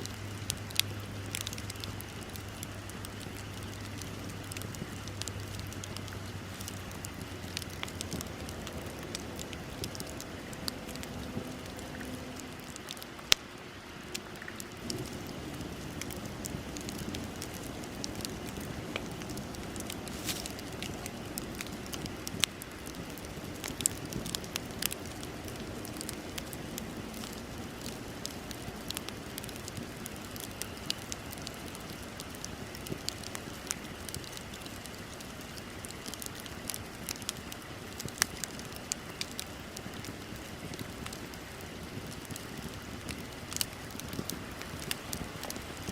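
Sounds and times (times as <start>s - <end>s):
bonfire crackling and hissing: 0.0s - 45.9s.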